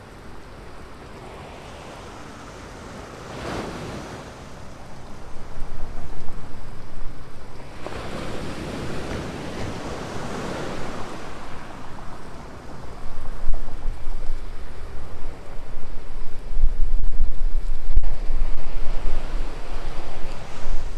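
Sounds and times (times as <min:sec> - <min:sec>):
ocean surf breaking on beach: 0:00.0 - 0:16.6, 0:18.0 - 0:20.9
wind buffeting microphone: 0:00.0 - 0:20.9.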